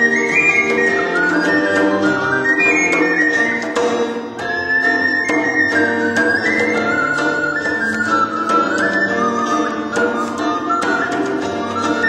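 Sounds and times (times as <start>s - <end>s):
flute melody: 0.0s - 12.0s
strummed string accompaniment: 0.0s - 12.0s.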